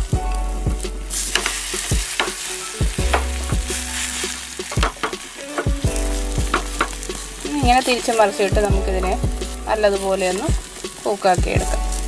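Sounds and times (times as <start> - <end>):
omelette sizzling in hot oil: 0.2 - 12.0
wooden spatula scraping a pan: 1.1 - 11.6.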